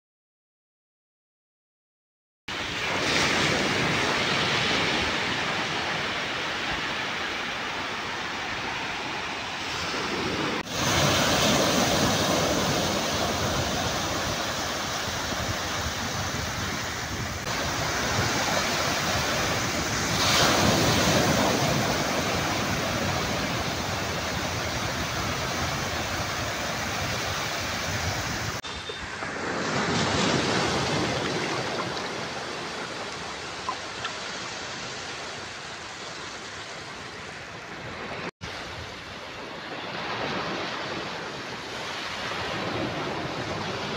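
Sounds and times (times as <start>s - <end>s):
sea surf washing onto beach: 2.5s - 43.9s.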